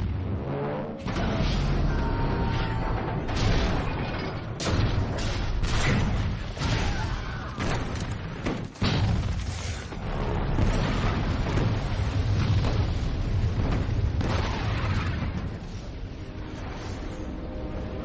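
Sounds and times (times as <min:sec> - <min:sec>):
explosions: 0:00.0 - 0:17.1.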